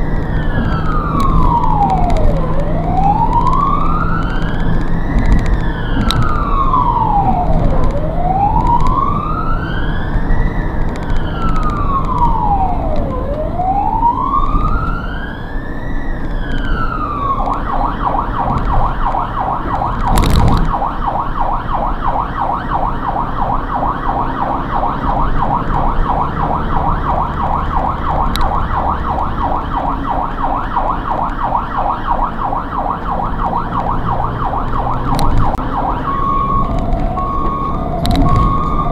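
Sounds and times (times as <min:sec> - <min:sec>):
ambulance siren: 0:00.0 - 0:38.9
engine and road noise: 0:00.0 - 0:38.9.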